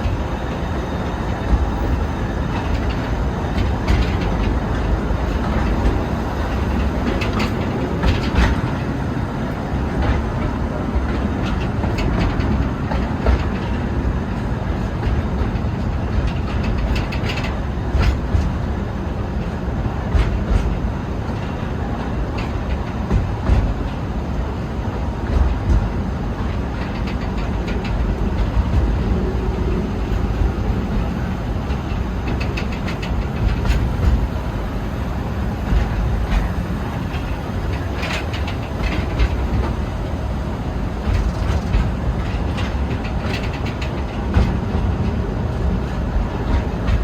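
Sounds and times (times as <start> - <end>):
train rumbling: 0.0 - 47.0
wheel clacks over rail joints: 0.0 - 47.0.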